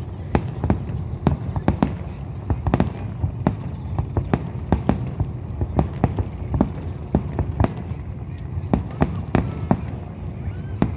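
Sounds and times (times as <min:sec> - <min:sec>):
continuous low rumble: 0:00.0 - 0:10.9
fireworks bursting: 0:00.0 - 0:10.9.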